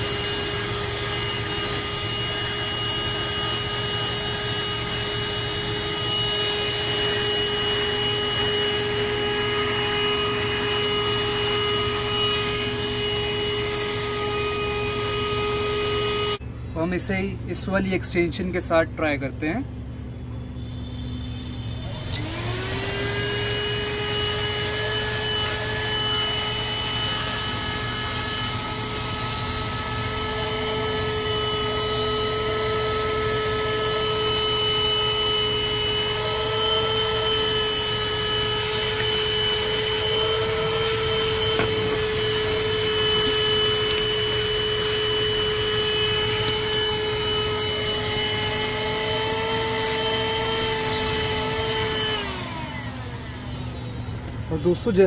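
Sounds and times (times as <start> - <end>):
handheld vacuum cleaner whining: 0.0 - 16.4, 20.7 - 55.0.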